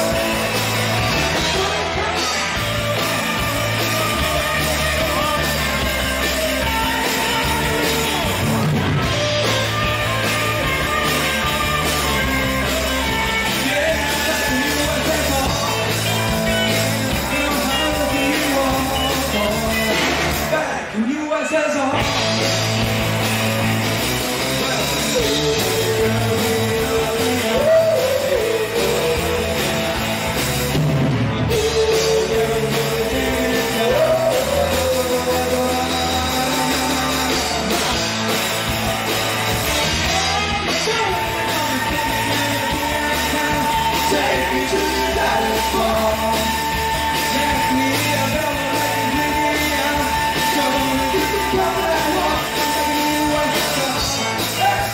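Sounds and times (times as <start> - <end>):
person singing: 0.0 - 22.8, 24.3 - 30.4, 31.4 - 38.6, 39.4 - 54.9
live rock band playing: 0.0 - 54.9.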